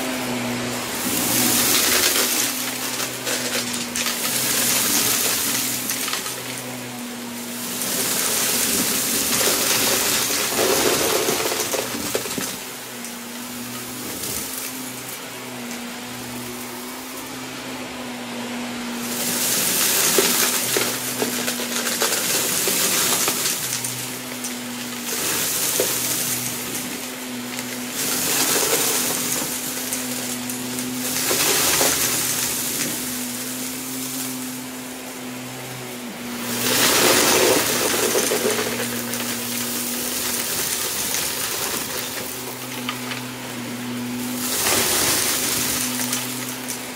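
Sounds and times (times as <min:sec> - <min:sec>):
vacuum cleaner motor humming: 0:00.0 - 0:46.9
debris rattling into vacuum: 0:00.2 - 0:17.9, 0:19.0 - 0:46.9.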